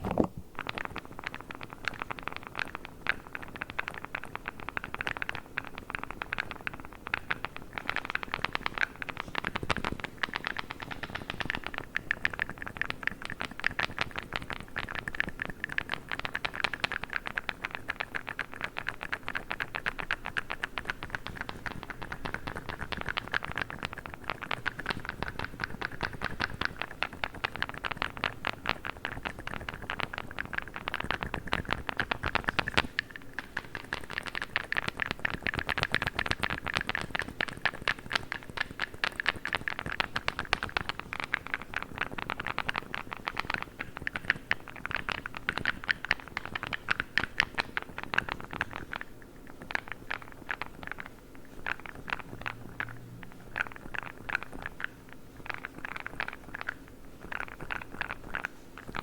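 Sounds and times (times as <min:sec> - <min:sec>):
fingers tapping and scratching plastic: 0:00.0 - 0:59.0.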